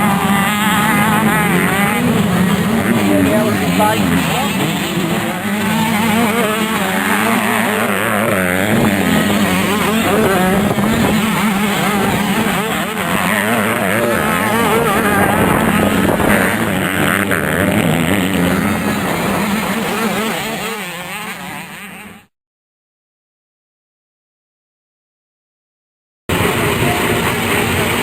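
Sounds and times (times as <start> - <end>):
motocross bike engines revving: 0.0 - 22.3, 26.3 - 28.0.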